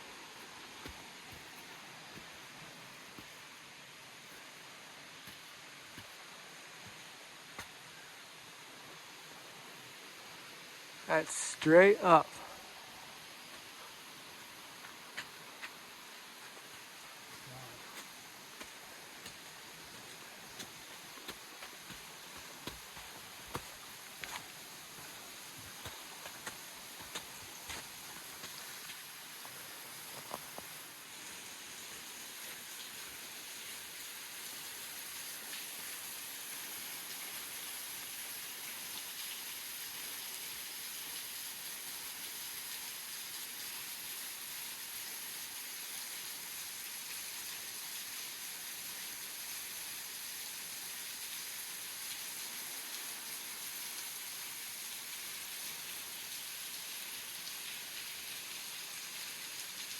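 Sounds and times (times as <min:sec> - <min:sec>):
falling water hiss: 0:00.0 - 0:59.9.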